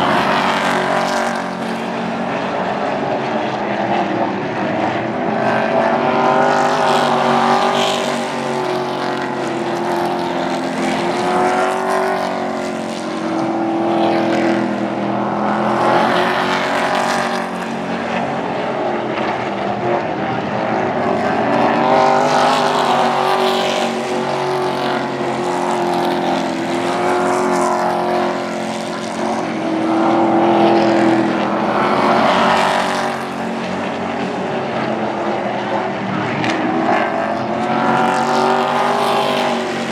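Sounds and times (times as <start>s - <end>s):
racing truck engines passing: 0.0s - 39.9s.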